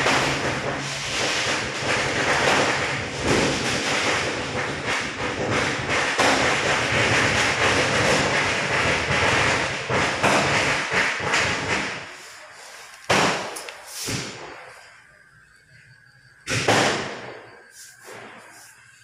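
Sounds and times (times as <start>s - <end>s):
firecrackers crackling: 0.0s - 19.0s
hiss: 0.0s - 19.0s.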